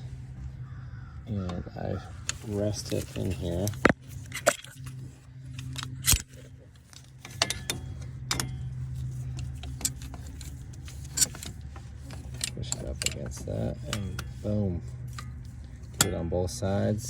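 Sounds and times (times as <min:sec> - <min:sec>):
steady low hum: 0:00.0 - 0:17.0
metal tools clinking: 0:02.2 - 0:17.0.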